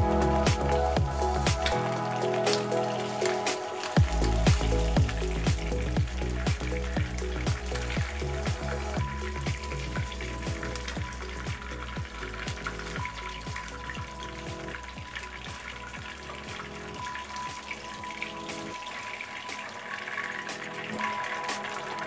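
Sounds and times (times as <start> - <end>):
background music with beat: 0.0 - 22.0
oil sizzling and crackling: 0.0 - 22.0.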